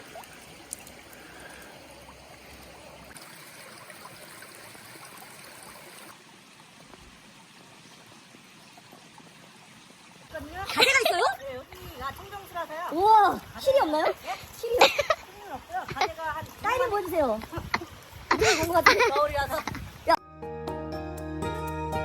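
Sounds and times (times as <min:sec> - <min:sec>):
stream trickling: 0:00.0 - 0:20.2.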